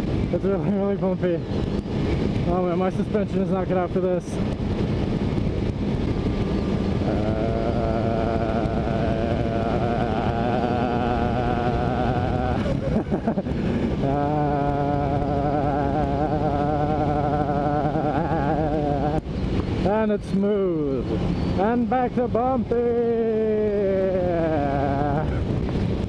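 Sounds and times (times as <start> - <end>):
wind and road noise: 0.0 - 26.0
motorcycle engine running: 3.7 - 26.0.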